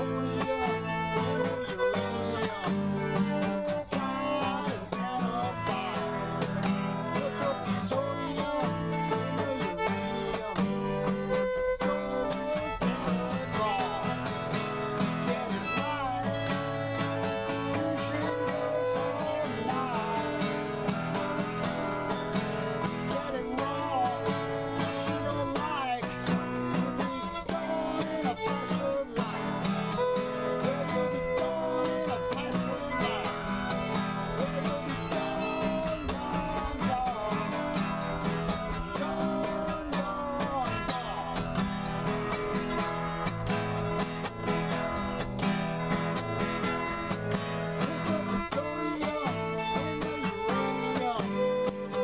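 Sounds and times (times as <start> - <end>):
acoustic guitar strumming: 0.0 - 52.0
fiddle playing bluegrass melody: 0.0 - 52.0.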